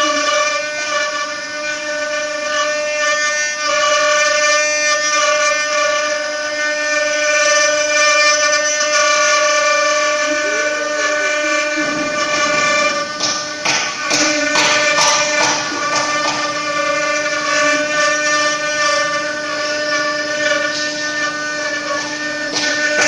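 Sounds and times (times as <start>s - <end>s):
router spindle whining: 0.0s - 23.0s.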